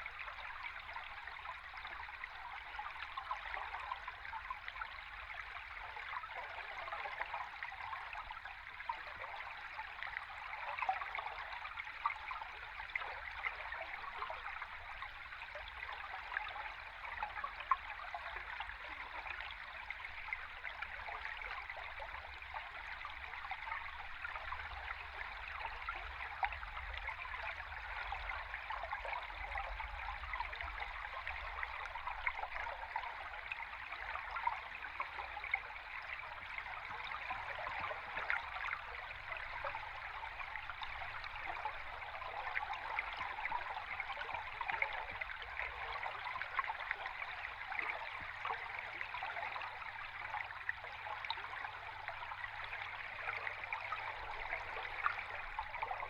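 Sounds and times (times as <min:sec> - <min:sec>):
underwater rushing stream: 0:06.4 - 0:56.0.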